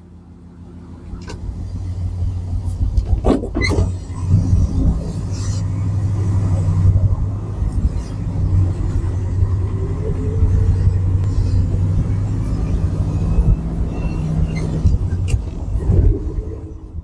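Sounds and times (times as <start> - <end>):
engine running low rumble: 0.0 - 17.0.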